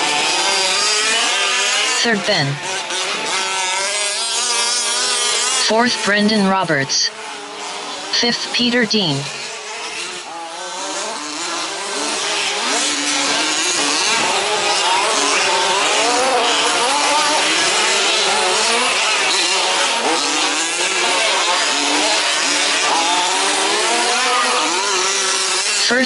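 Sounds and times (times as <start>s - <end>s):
rc truck engines buzzing: 0.0s - 26.0s.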